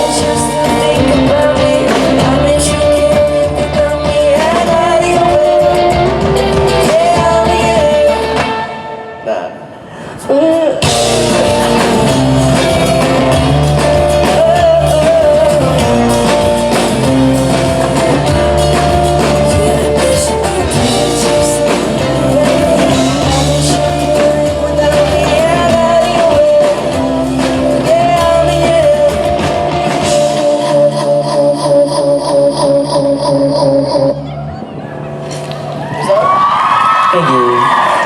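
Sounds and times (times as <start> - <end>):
person singing: 0.0 - 34.5
live pop-rock band: 0.0 - 38.0.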